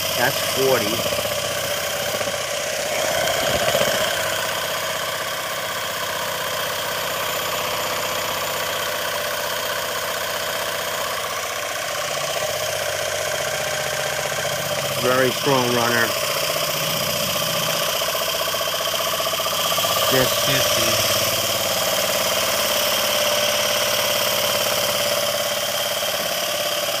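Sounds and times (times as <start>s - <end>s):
steam engine chuffing and clattering: 0.0s - 27.0s.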